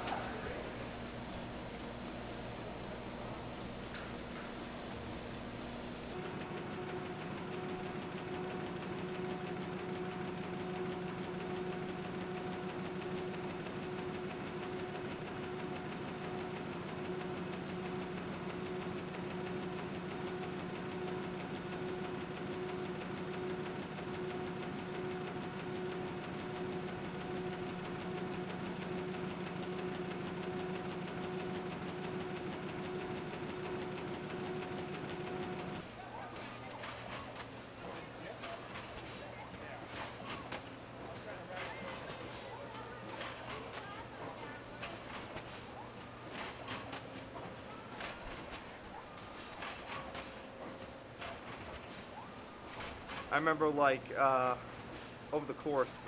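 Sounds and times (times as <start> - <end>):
constant machine hum: 0.0 - 56.0
printing press running: 0.0 - 56.0.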